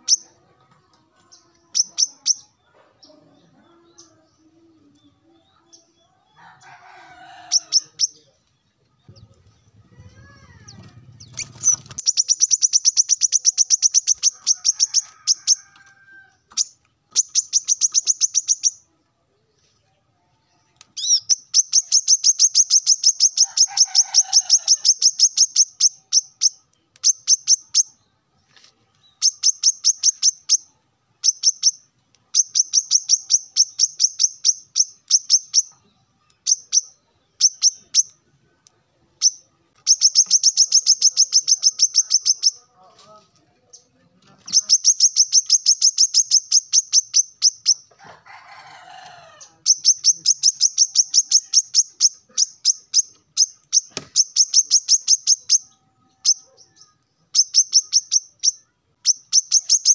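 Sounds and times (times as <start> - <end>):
sunbird singing: 0.0 - 0.4, 1.3 - 15.7, 16.5 - 19.5, 20.5 - 28.2, 28.9 - 42.9, 43.6 - 47.9, 49.2 - 59.9.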